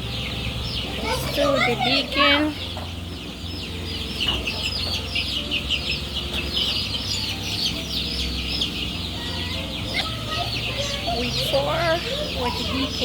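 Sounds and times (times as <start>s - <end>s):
chickens cheeping: 0.0s - 13.0s.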